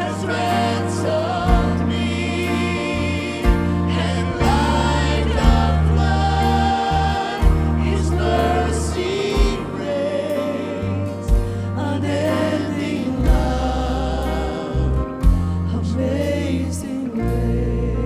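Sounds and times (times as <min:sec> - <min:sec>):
live band backing: 0:00.0 - 0:18.0.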